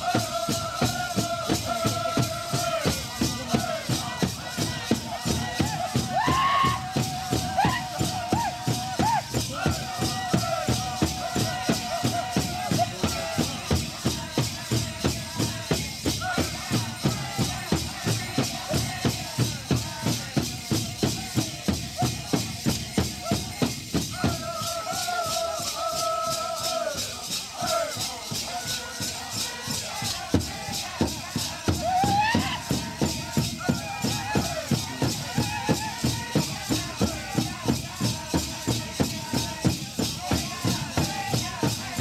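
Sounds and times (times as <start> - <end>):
high held singing voices: 0.0 - 42.0
steady drumbeat: 0.0 - 42.0.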